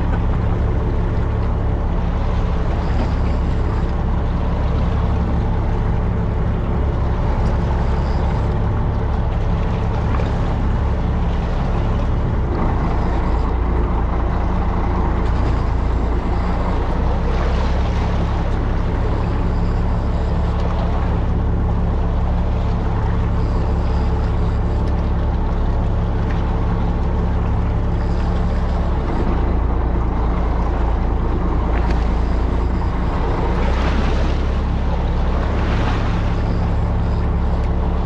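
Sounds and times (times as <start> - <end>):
boat engine droning: 0.0 - 38.0
water noise: 0.0 - 38.0.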